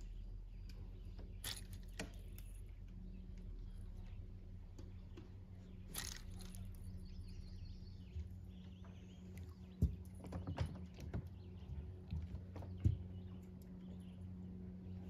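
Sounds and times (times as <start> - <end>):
faint birdsong: 0.0 - 15.0
low steady hum: 0.0 - 15.0.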